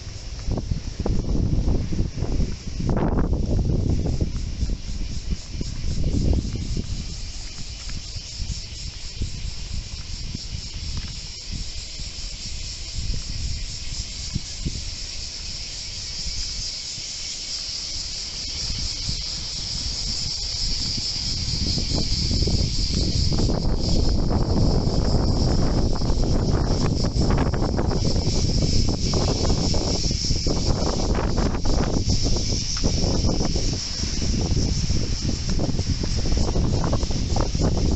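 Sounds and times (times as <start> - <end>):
steady high-pitched hiss: 0.0 - 37.9
wind buffeting microphone: 0.0 - 37.9.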